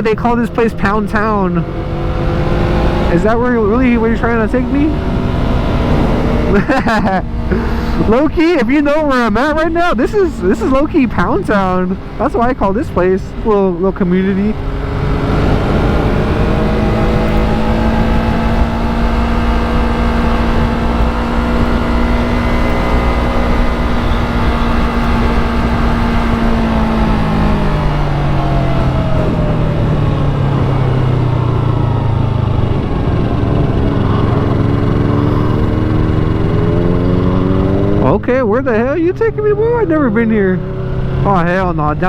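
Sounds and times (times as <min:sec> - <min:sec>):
motorcycle engine running: 0:00.0 - 0:42.0
wind rumble on microphone: 0:00.0 - 0:42.0.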